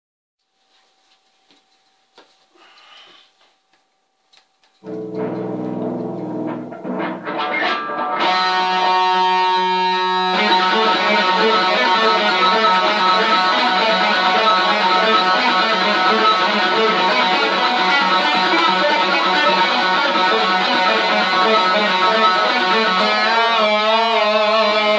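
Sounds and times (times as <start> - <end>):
electric guitar with echo: 4.8 - 24.9.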